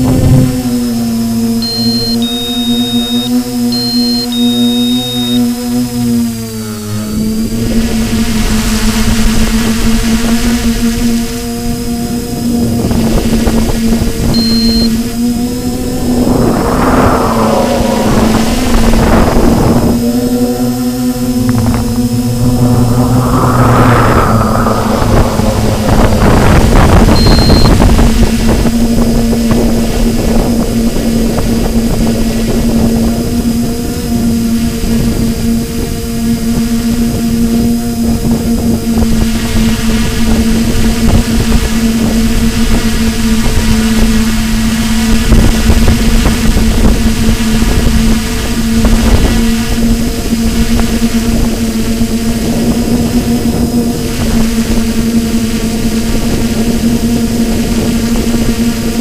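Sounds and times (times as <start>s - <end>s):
drone propellers humming: 0.0s - 59.0s
wind rumbling on microphone: 0.0s - 59.0s.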